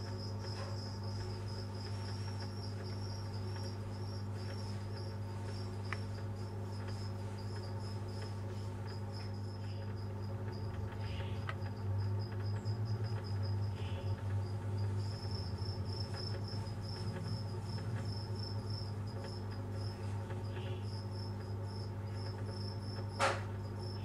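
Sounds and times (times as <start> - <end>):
insect chirping trill: 0.0 - 24.0.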